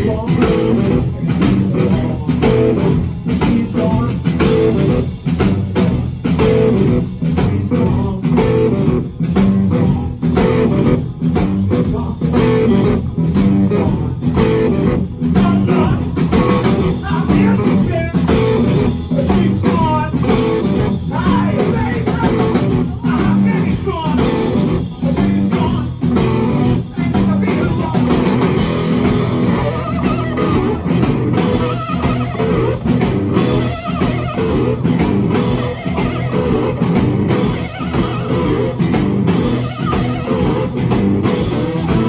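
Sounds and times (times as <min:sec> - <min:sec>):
drum kit beat: 0:00.0 - 0:42.0
electric guitars playing blues: 0:00.0 - 0:42.0.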